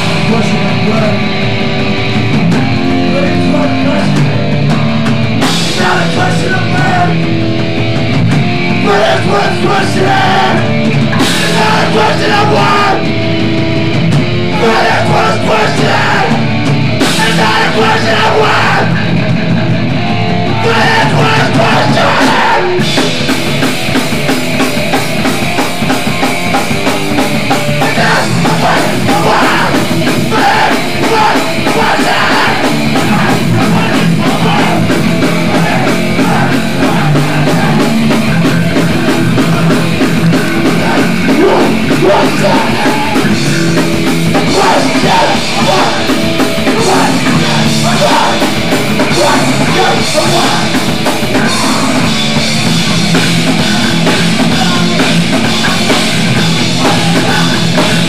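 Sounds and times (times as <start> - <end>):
hardcore punk music: 0.0 - 58.0.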